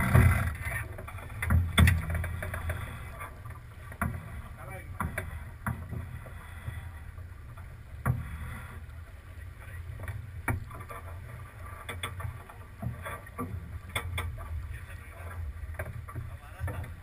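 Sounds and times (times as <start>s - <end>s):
wind and water against hull: 0.0s - 17.0s.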